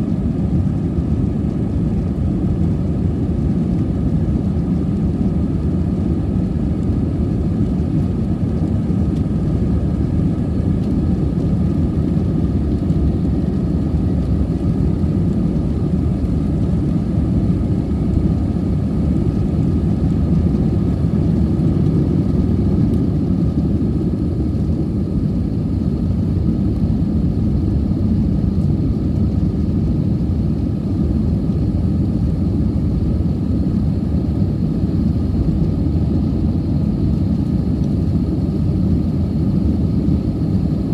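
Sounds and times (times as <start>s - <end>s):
faint steady whines: 0.0s - 40.9s
jet engine cabin rumble: 0.0s - 40.9s.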